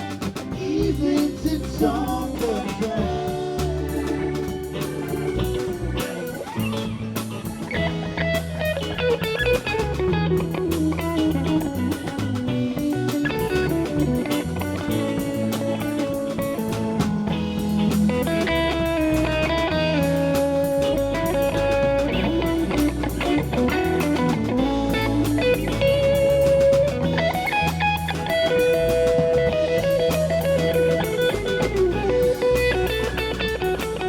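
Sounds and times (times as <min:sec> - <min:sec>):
bass guitar: 0:00.0 - 0:34.0
drums: 0:00.0 - 0:34.0
electric guitar lead: 0:00.0 - 0:34.0.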